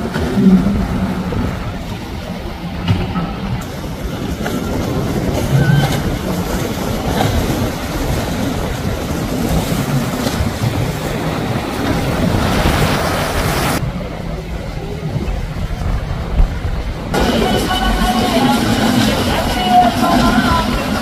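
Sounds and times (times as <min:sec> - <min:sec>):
outboard motors rumbling: 0:00.0 - 0:21.0
wind and spray rushing: 0:00.0 - 0:21.0.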